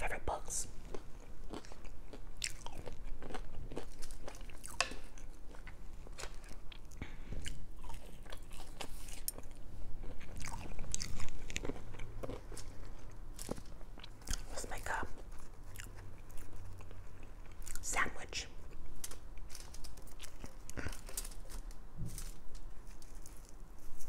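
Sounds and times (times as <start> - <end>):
crunchy chewing of fries: 0.1 - 24.0.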